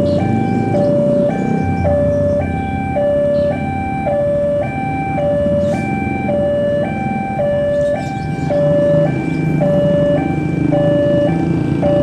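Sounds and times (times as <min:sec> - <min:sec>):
diesel locomotive engine rumble: 0:00.0 - 0:12.0
two-tone level crossing alarm: 0:00.0 - 0:12.0.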